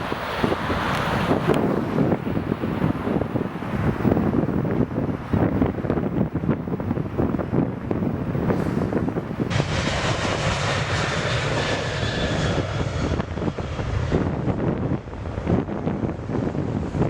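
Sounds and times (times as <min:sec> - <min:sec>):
jet engines rushing: 0:00.0 - 0:17.0
wind buffeting microphone: 0:00.0 - 0:17.0.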